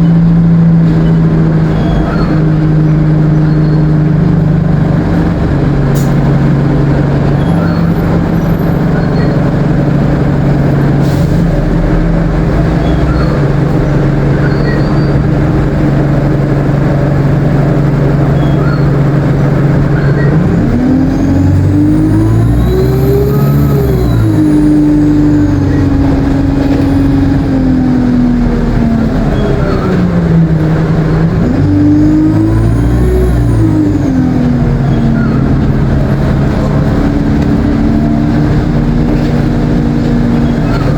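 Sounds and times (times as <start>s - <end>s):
bus diesel engine: 0.0s - 40.9s
high turbo whine: 0.0s - 40.9s.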